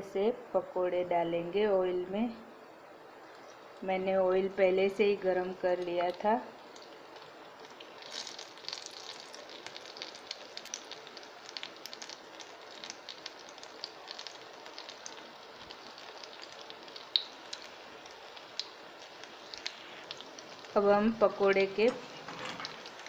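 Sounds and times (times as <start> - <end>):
batter sizzling in hot oil: 3.2 - 23.0.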